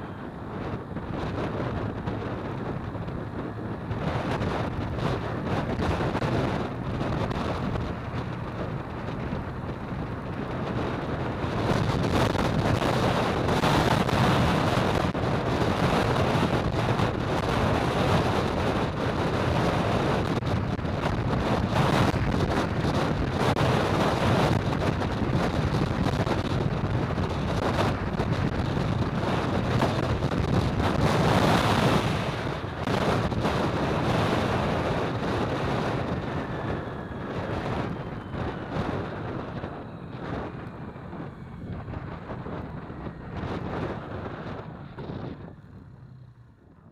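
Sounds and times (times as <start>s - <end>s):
road traffic noise: 0.0s - 46.9s
wind rushing over microphone: 0.0s - 46.9s.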